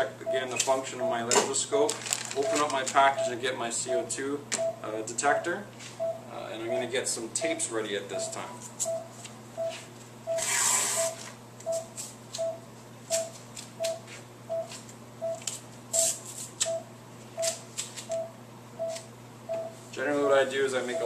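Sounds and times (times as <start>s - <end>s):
patient monitor beeping: 0.0s - 1.5s, 2.4s - 15.4s, 16.0s - 21.0s.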